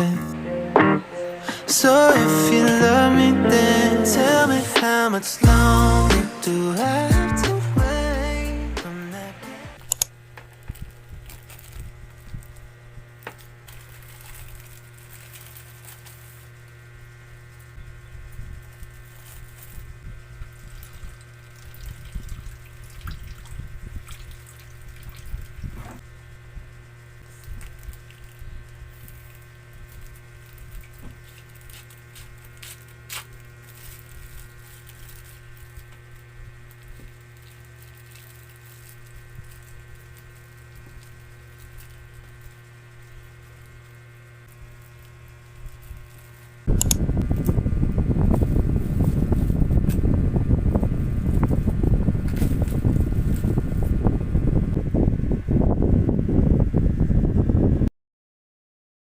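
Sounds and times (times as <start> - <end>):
electrical hum: 0.0 - 57.9.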